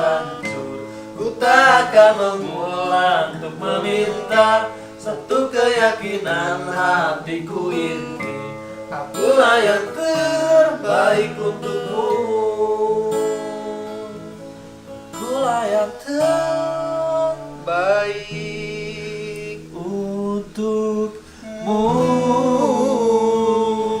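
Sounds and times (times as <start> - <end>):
person singing wordless notes: 0.0 - 14.4, 15.2 - 24.0
acoustic guitar strumming: 0.0 - 24.0.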